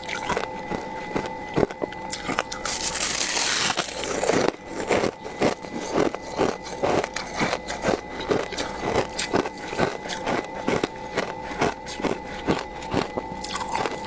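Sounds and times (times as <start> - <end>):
freezer frost scraping: 0.1 - 14.0.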